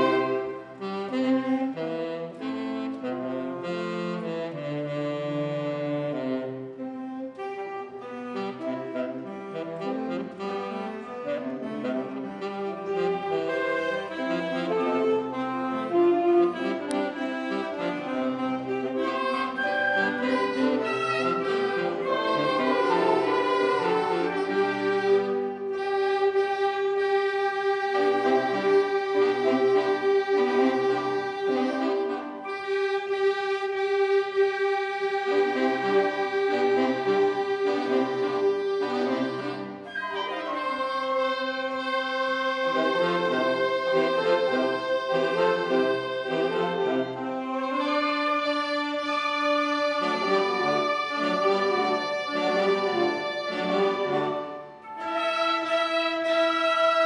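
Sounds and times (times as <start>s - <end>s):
wind band playing: 0.0s - 57.0s.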